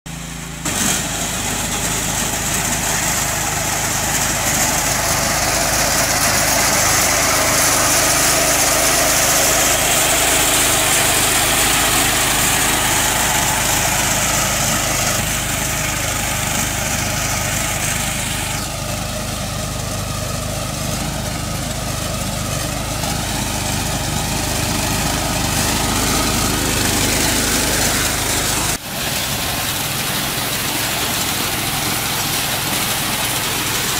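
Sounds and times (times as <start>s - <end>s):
reaper petrol engine running: 0.1s - 33.9s.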